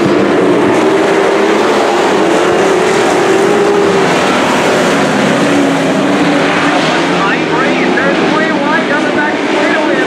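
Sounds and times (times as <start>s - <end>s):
race truck engines running hard: 0.0s - 10.0s.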